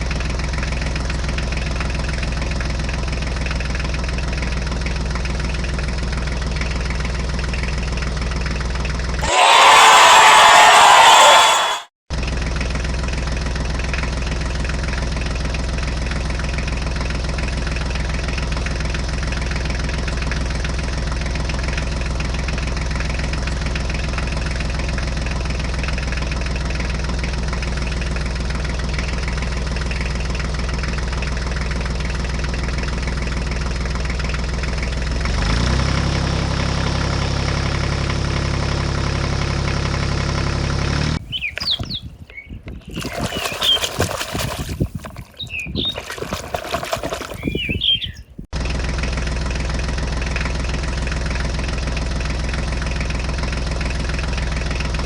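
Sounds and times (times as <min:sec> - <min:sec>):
engine idling: 0:00.0 - 0:10.8, 0:12.1 - 0:42.0, 0:45.6 - 0:55.0.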